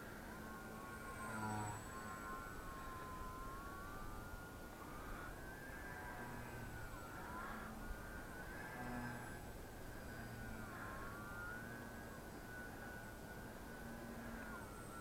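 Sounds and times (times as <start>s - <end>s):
model plane electric motor whining: 0.0s - 15.0s.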